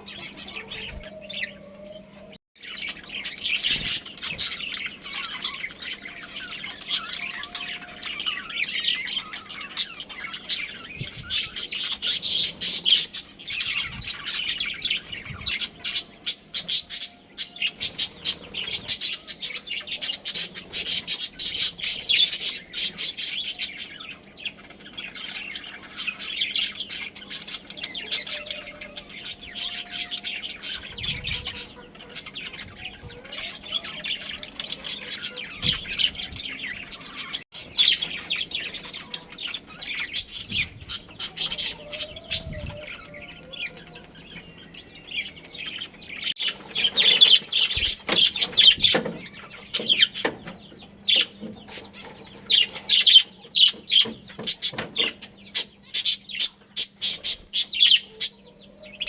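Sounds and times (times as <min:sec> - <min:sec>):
budgerigars chirping and chattering: 0:00.0 - 0:59.0.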